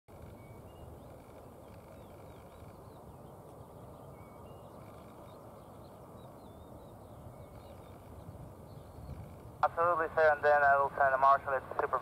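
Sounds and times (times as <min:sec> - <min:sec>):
small birds chirping: 0:00.1 - 0:10.4.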